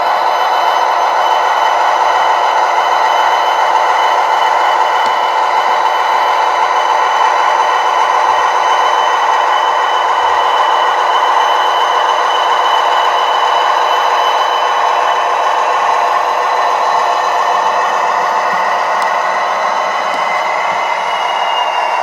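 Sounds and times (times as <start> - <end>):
model locomotive humming: 0.0 - 22.0.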